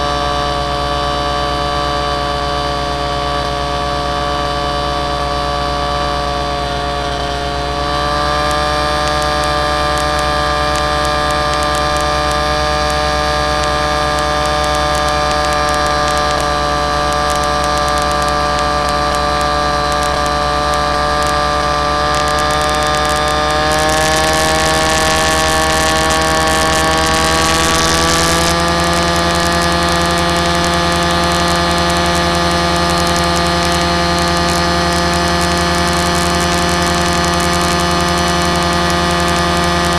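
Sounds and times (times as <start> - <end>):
aircraft motor whine: 0.0 - 39.9.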